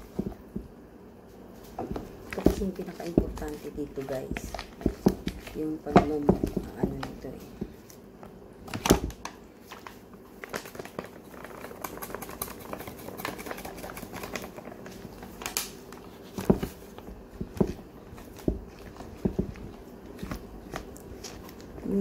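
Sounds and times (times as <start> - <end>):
flour bag rustling: 1.3 - 22.0.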